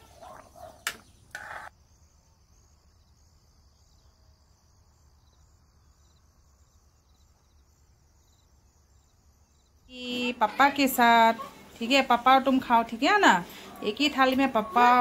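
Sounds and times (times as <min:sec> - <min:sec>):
faint crickets chirping: 0:00.0 - 0:15.0.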